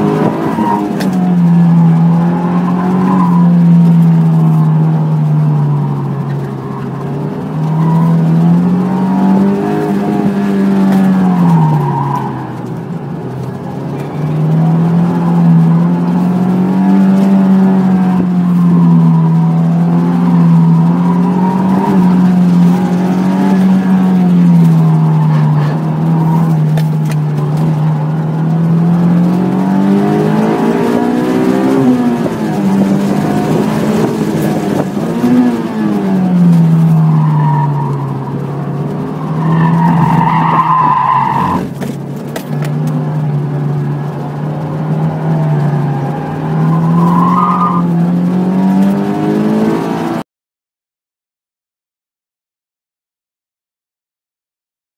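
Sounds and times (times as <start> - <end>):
car engine revving: 0.0 - 50.2
tires squealing: 0.0 - 50.2.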